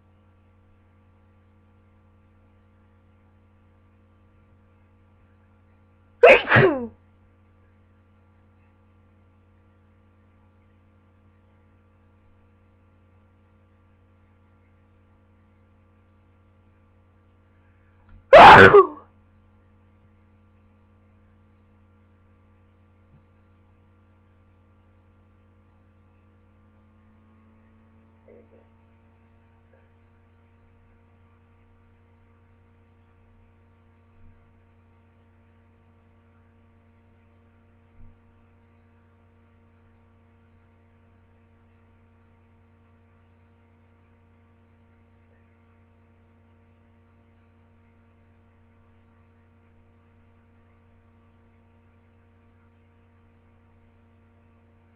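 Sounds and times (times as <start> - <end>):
low electrical hum: 0.0 - 54.9.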